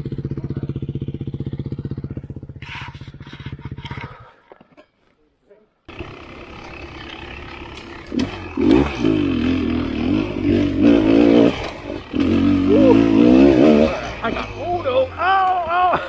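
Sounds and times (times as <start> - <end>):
dirt bike engine revving: 0.0 - 4.0, 5.9 - 16.0.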